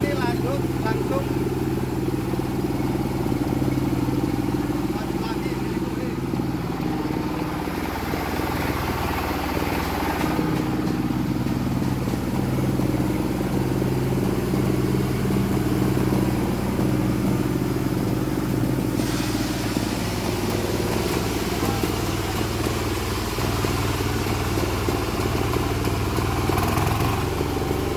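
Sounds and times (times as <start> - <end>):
grinding machine engine: 0.0 - 27.9
hissing rattling grind: 0.3 - 25.4.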